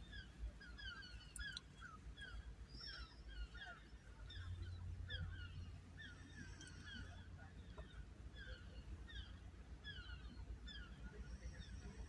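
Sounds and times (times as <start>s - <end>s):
birds calling faintly: 0.0s - 12.0s.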